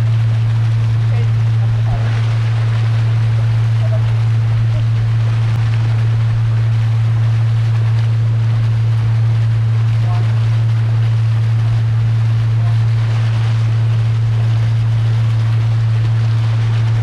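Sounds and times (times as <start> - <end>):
boat engine humming: 0.0 - 17.0
water rushing: 0.0 - 17.0
wind: 0.0 - 17.0.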